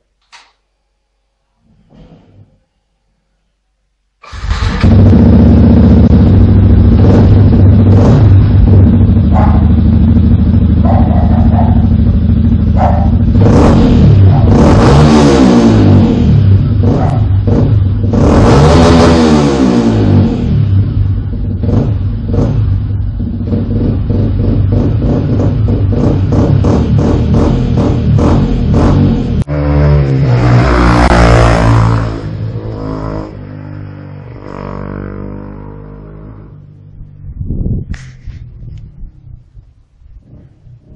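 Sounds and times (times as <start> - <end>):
motorcycle engine idling and revving: 4.3 - 40.9.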